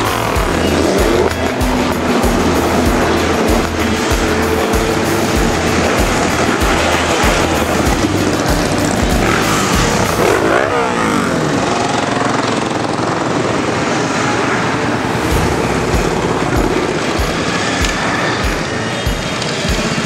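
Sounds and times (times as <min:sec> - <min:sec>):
motorcycles riding past: 0:00.0 - 0:20.0.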